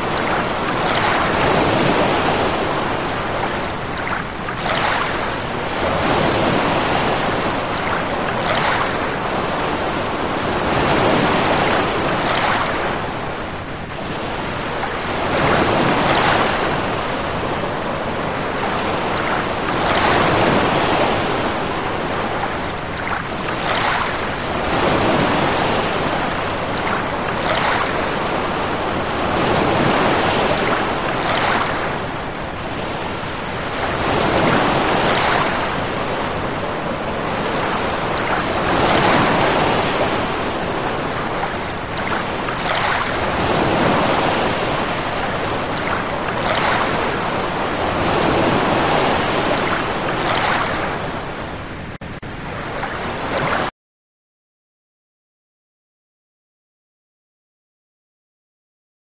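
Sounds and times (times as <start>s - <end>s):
ocean waves washing in: 0.0s - 53.7s.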